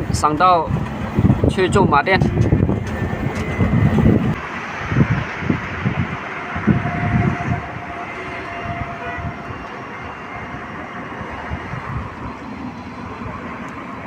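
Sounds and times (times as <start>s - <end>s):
low rumbles: 0.0s - 13.8s
road and wind noise: 0.0s - 14.0s.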